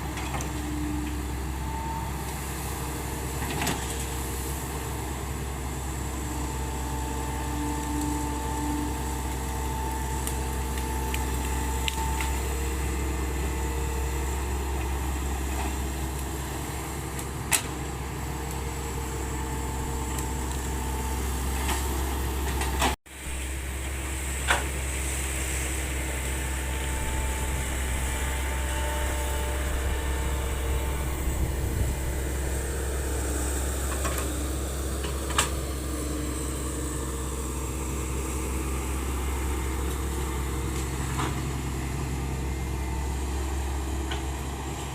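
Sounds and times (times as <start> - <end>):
excavator diesel engine running: 0.0 - 44.9
hydraulic whine: 4.7 - 44.9.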